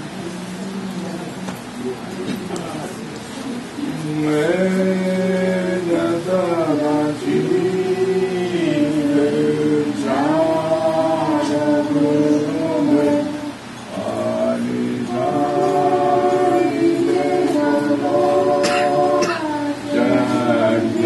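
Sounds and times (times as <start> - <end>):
group singing unaccompanied: 3.8 - 21.0.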